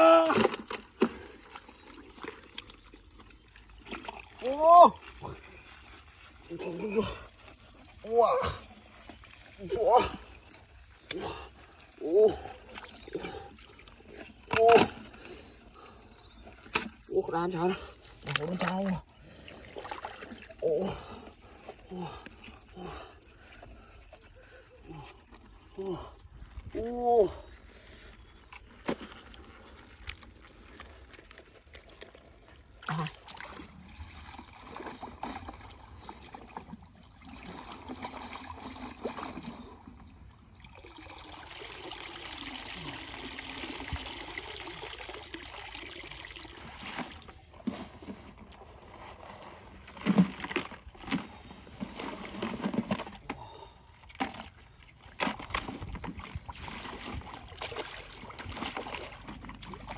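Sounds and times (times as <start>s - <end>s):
water trickling and pouring: 0.0s - 27.4s, 28.2s - 59.9s.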